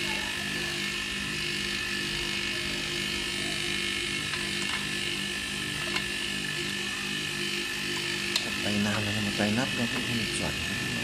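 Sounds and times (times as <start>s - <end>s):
air compressor motor hum: 0.0s - 11.0s.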